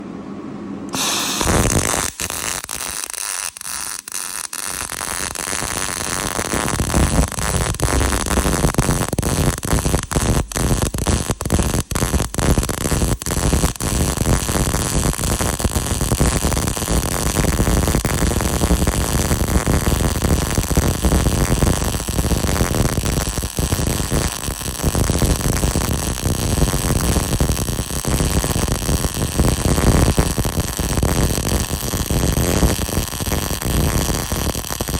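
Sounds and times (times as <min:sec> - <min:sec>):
welding arc crackling hiss: 0:00.9 - 0:34.9.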